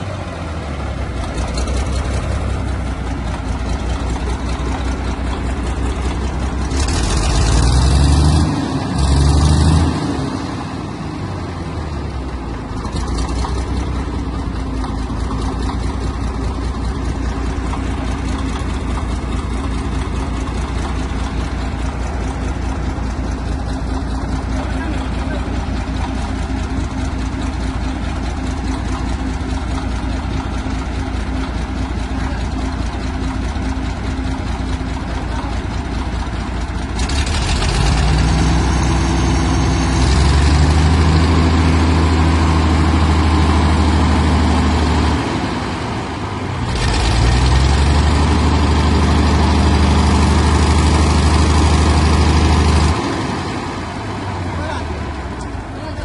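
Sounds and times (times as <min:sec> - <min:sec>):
diesel tractor engine idling and revving: 0:00.0 - 0:56.0.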